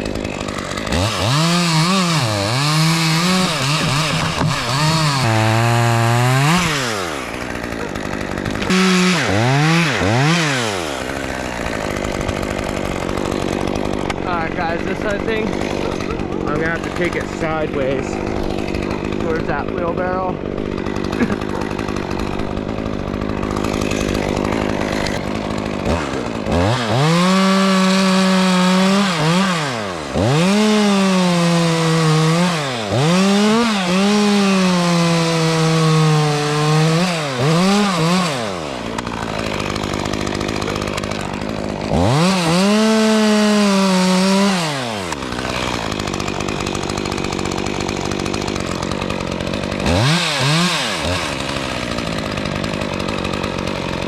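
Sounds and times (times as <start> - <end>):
chainsaw idling and cutting wood: 0.0 - 54.0.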